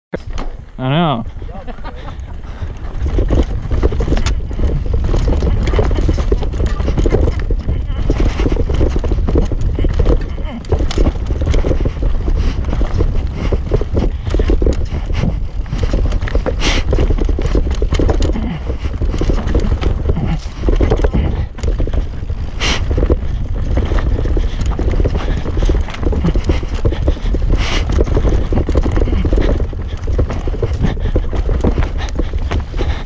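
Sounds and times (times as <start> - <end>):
bike chain and frame rattling: 0.2 - 33.0
tyres on loose dirt: 0.2 - 33.0
wind rumbling on microphone: 0.2 - 33.0.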